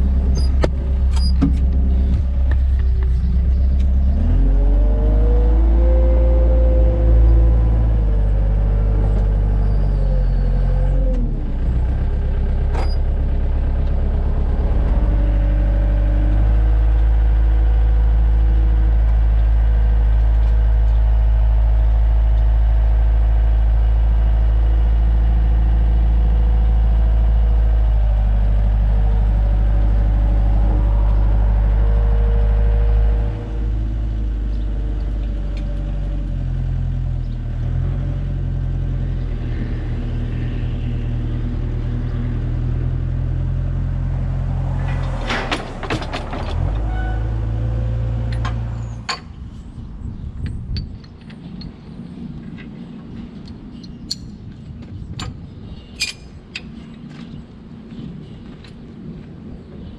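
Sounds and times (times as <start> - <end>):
diesel engine revving: 0.0 - 50.6.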